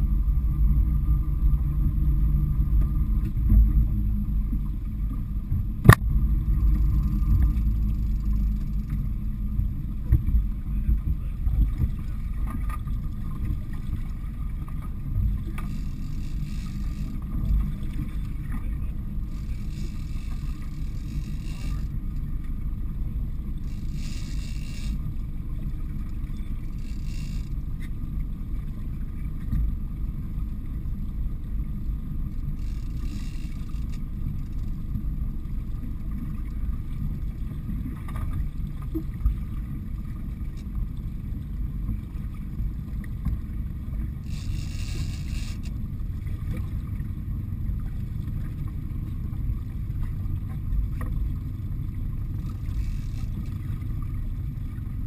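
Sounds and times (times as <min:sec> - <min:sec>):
boat engine rumbling: 0:00.0 - 0:55.0.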